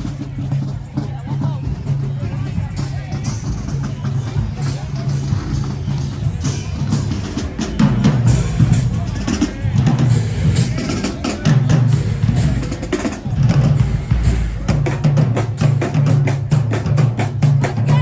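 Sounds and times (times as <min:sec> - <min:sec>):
marching band playing: 0:00.0 - 0:18.0
snare and bass drums: 0:00.0 - 0:18.0.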